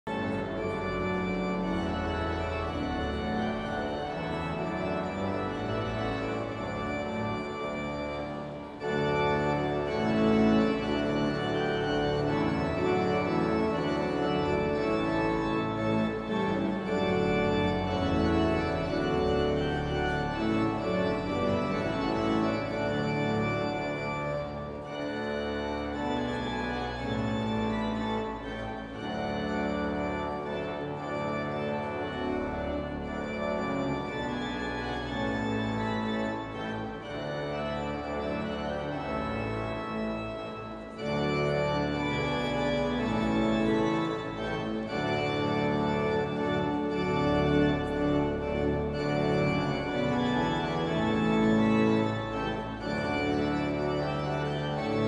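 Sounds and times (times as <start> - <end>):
organ playing slow chords: 0.1 - 55.0.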